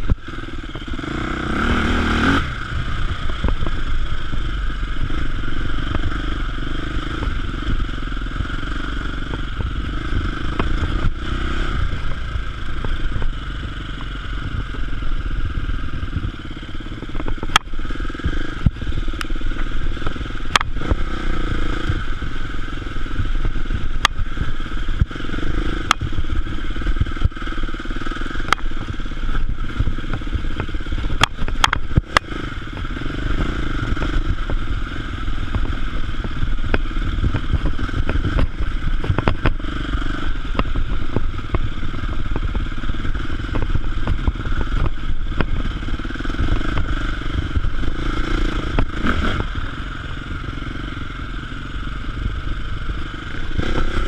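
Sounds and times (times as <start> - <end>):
motorcycle engine revving: 0.0 - 54.0
motorcycle knocks and rattles: 0.0 - 54.0.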